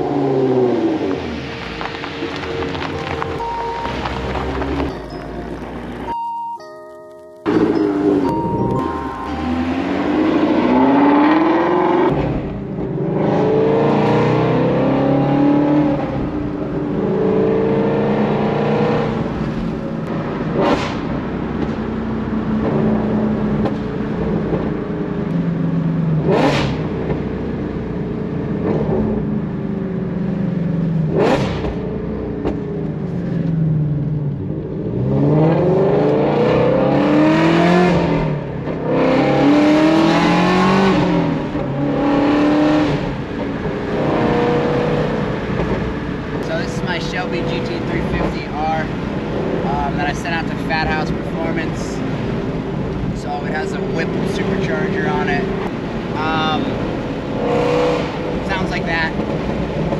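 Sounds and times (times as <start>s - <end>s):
car engine accelerating: 0.0s - 6.2s, 7.4s - 59.9s.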